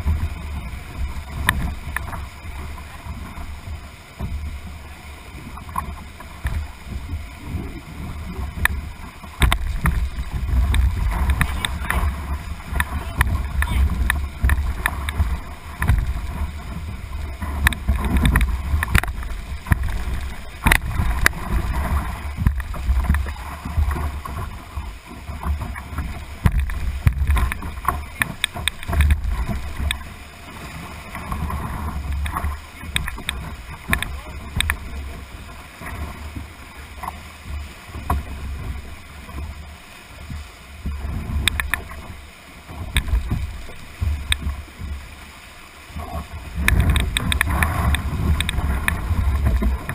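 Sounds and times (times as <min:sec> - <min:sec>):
wind buffeting microphone: 0:00.0 - 0:45.2, 0:45.9 - 0:49.9
whitewater rushing and splashing: 0:00.0 - 0:49.9.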